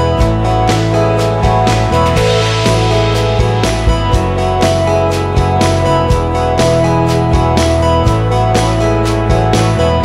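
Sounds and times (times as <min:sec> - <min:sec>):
guitar-led background music: 0:00.0 - 0:10.0.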